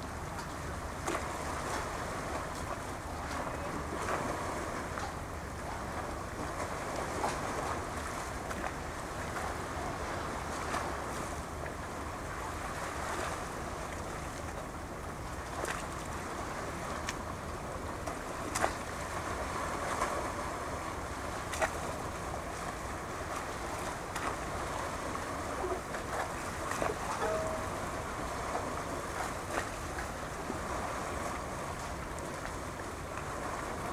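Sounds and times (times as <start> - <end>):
small waves on open water: 0.0 - 33.9.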